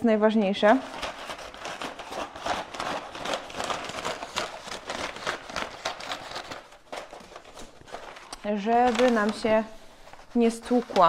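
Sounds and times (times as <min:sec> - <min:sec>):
packing paper crinkling: 0:00.8 - 0:11.0.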